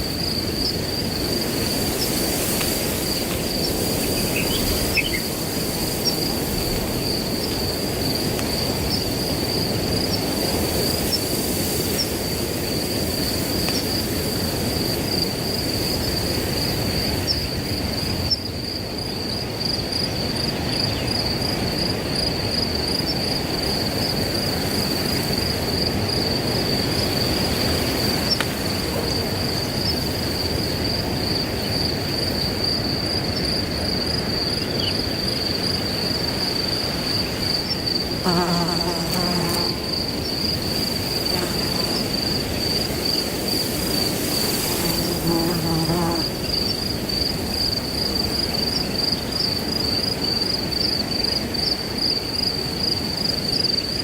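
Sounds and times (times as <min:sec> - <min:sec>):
crickets trilling: 0:00.0 - 0:54.0
wind through grass: 0:00.0 - 0:54.0.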